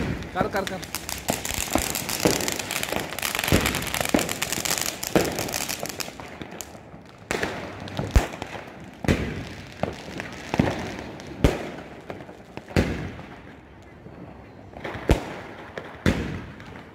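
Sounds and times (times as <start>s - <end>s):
firecracker bangs: 0.0s - 13.4s, 14.8s - 16.9s
firework fountain crackling: 0.0s - 16.9s.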